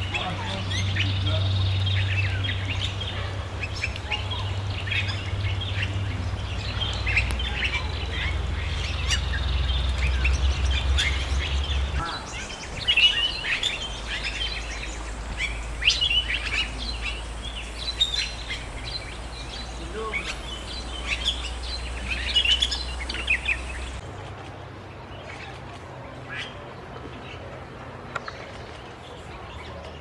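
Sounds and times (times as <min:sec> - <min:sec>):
birds chirping and whistling: 0:00.0 - 0:24.0
low steady rumble: 0:00.0 - 0:24.0.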